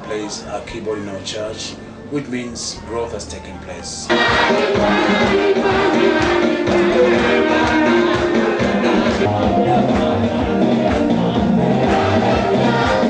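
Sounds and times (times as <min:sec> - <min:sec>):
upbeat gospel music with singing: 0:00.0 - 0:13.0.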